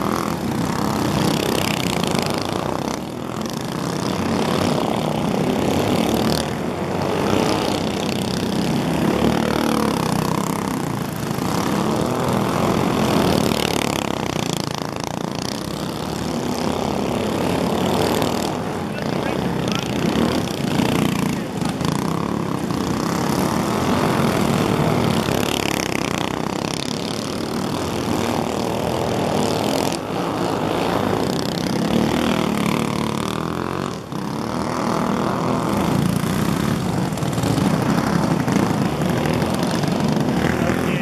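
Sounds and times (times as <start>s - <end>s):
go-kart engines buzzing: 0.0s - 41.0s.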